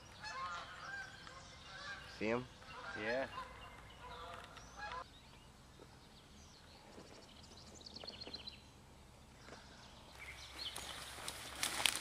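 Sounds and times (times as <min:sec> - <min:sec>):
faint songbird chirping: 0:00.0 - 0:12.0.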